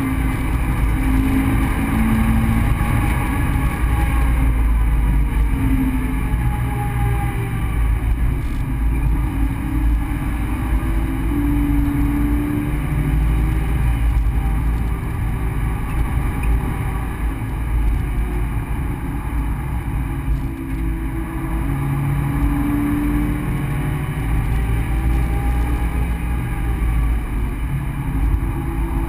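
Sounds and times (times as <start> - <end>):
car engine pulling hard: 0.0 - 29.0
road and wind rumble: 0.0 - 29.0.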